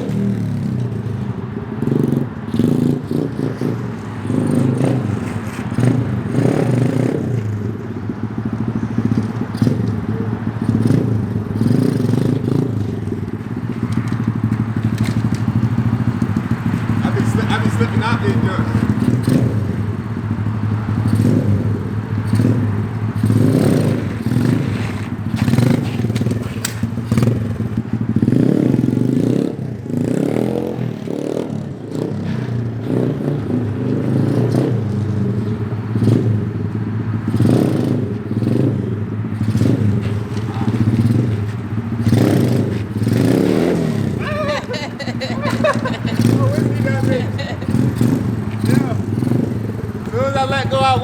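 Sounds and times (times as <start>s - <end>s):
pit bike engine revving: 0.0s - 51.0s.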